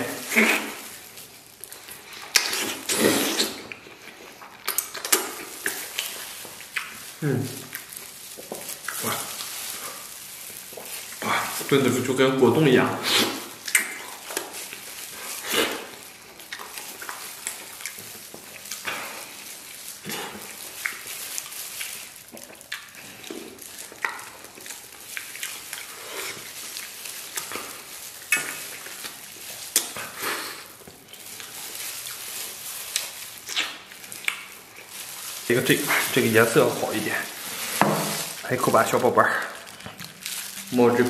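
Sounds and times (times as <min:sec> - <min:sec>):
wet chewing and lip-smacking: 0:00.2 - 0:11.8, 0:13.0 - 0:35.5.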